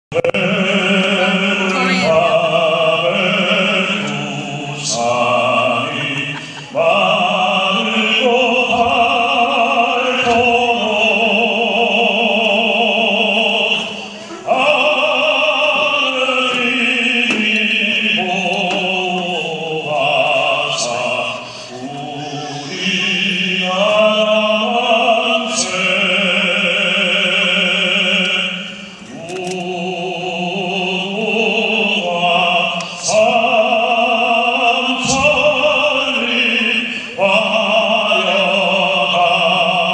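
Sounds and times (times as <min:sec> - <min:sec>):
man singing operatically: 0:00.1 - 0:13.9, 0:14.5 - 0:39.9.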